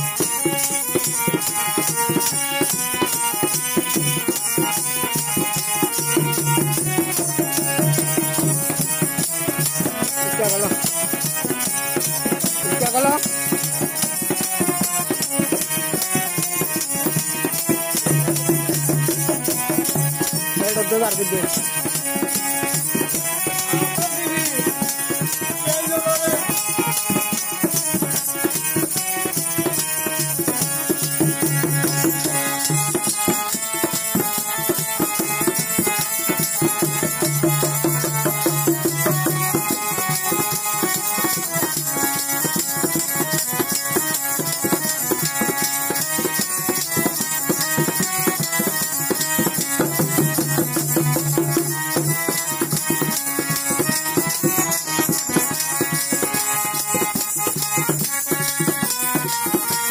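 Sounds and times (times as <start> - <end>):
hand-played barrel drum: 0.0 - 59.9
harmonium playing melody: 0.0 - 59.9.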